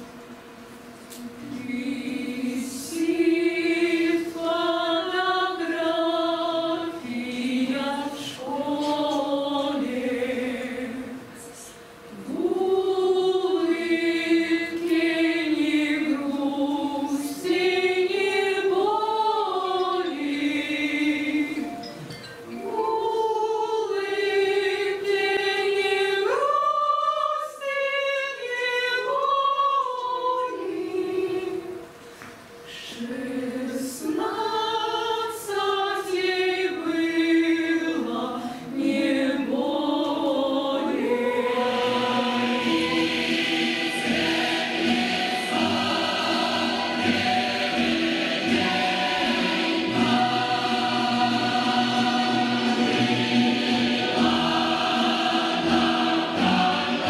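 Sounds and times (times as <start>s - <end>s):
choir singing: 1.3s - 32.0s, 32.7s - 57.0s.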